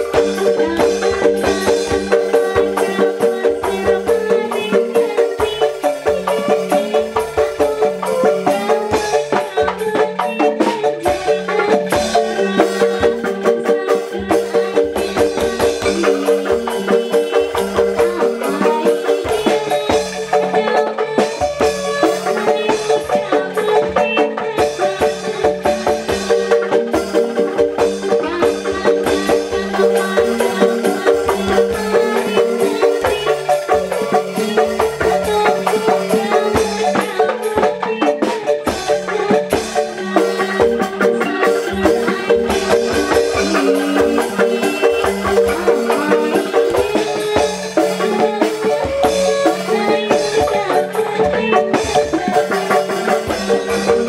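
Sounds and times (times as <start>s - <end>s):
drums: 0.0s - 54.0s
mallet-struck keyed instrument: 0.0s - 54.0s.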